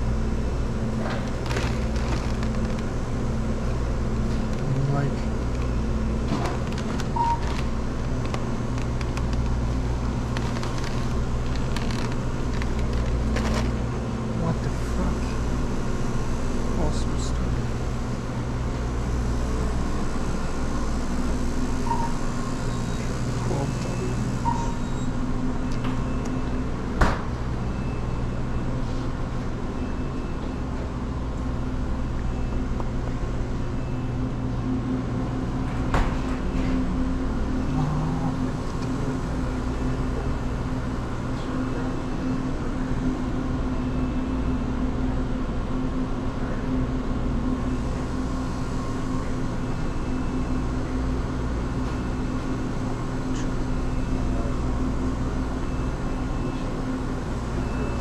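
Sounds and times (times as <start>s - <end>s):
refrigeration hum: 0.0s - 58.0s.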